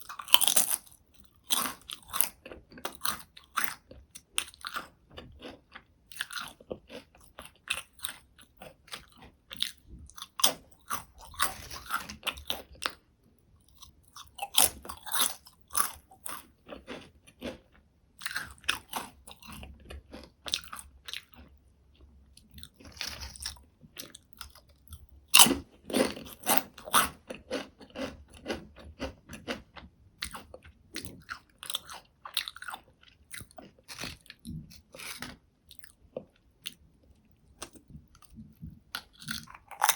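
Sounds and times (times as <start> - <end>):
chewing crisp potato chips: 0.0 - 39.9.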